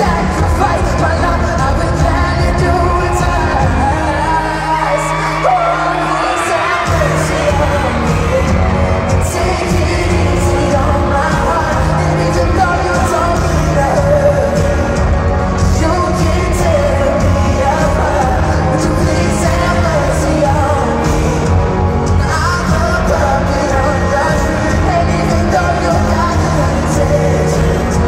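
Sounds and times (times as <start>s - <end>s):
live band playing: 0.0s - 28.0s
man singing: 0.0s - 28.0s.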